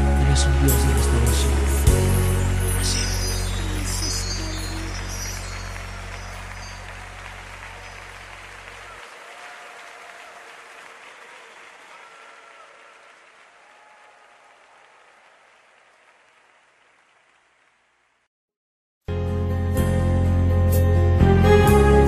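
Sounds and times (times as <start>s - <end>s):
audience applause: 0.0s - 18.3s.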